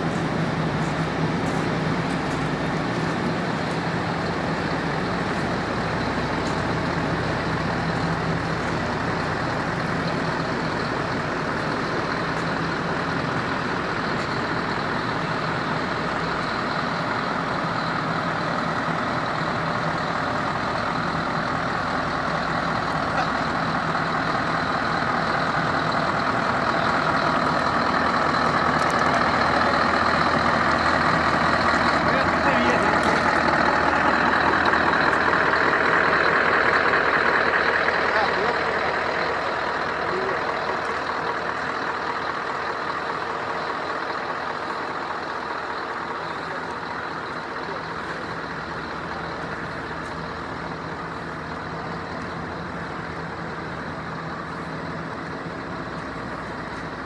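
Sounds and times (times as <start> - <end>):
diesel truck engines idling: 0.0 - 57.0.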